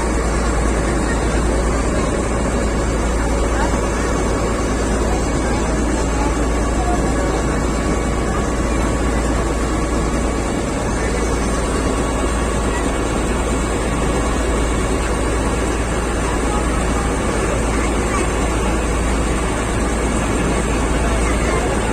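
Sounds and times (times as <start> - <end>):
boat engine droning: 0.0 - 21.9.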